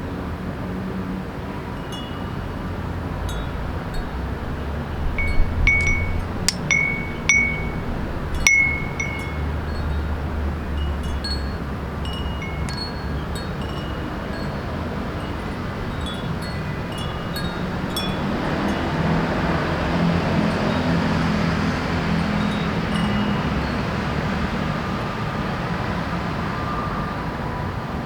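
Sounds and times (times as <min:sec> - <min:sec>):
city background: 0:00.0 - 0:28.0
low rumble of wind: 0:00.0 - 0:28.0
wind chime ringing: 0:01.7 - 0:24.7.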